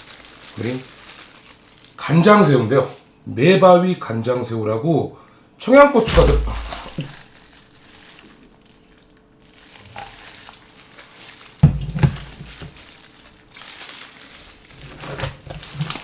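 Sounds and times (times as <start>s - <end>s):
plastic crinkling rustle: 0.0s - 3.2s, 6.0s - 16.0s.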